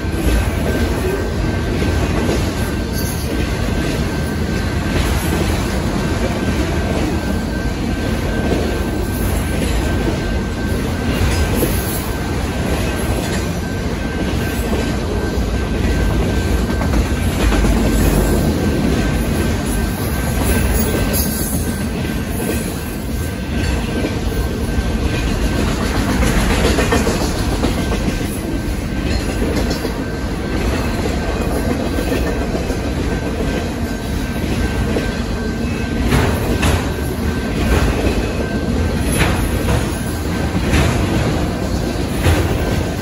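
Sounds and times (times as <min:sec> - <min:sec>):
clickety-clack over rail joints: 0:00.0 - 0:43.0
sharp train knocks: 0:00.0 - 0:43.0
train wheels rumbling on rail: 0:00.0 - 0:43.0.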